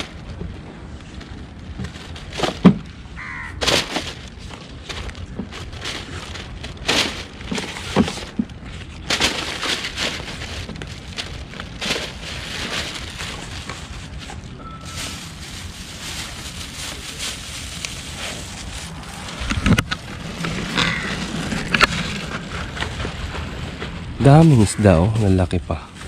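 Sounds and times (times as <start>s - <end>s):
steady low rumble: 0.0s - 24.6s
plastic bags rustling: 0.0s - 25.7s.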